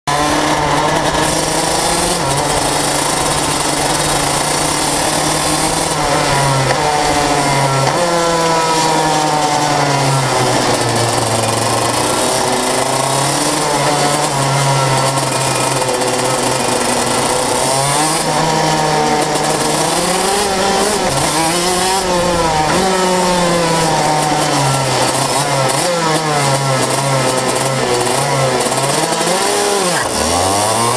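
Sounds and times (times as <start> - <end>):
kart engine revving: 0.0 - 30.9.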